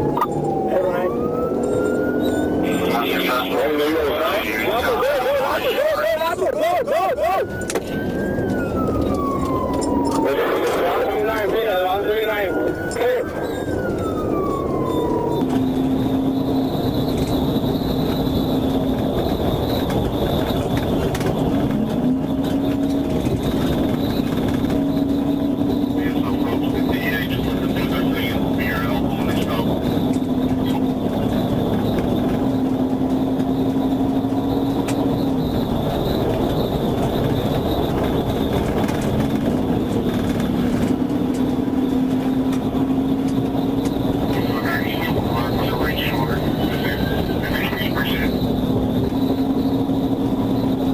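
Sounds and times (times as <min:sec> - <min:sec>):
vehicle roar with droning hum: 0:00.0 - 0:50.9.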